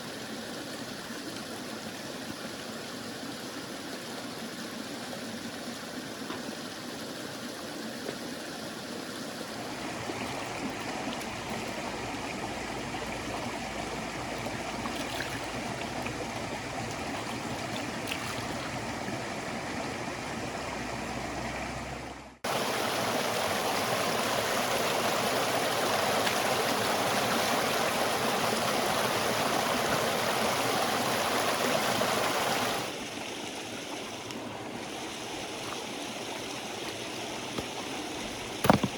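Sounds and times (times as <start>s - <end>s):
close rush of water: 0.0s - 38.9s
river water flowing: 0.0s - 38.9s.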